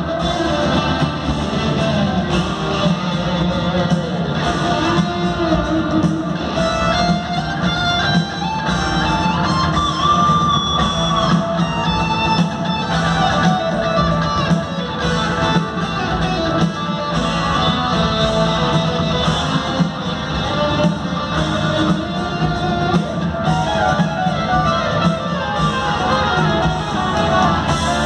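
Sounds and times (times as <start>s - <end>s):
lead guitar melody: 0.0s - 28.0s
live rock band playing: 0.0s - 28.0s.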